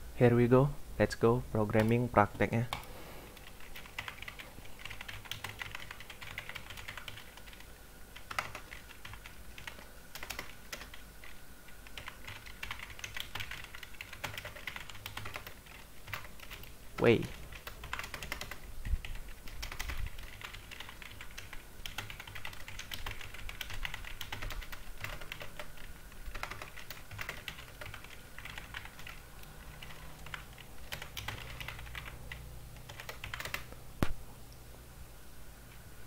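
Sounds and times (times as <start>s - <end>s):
computer keyboard typing: 1.7s - 2.0s, 2.6s - 33.7s.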